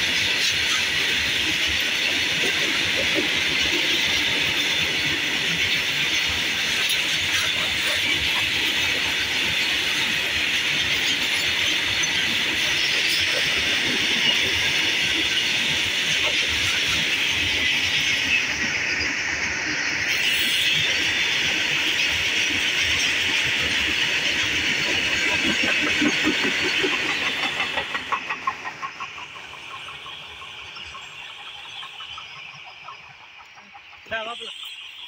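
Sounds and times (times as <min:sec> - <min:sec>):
train wheels rushing on rails: 0:00.0 - 0:35.0.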